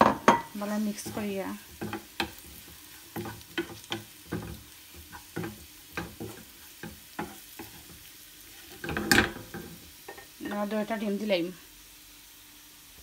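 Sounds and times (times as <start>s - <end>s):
hot oil sizzling: 0.0s - 13.0s
wooden spatula scraping pan: 0.1s - 10.7s.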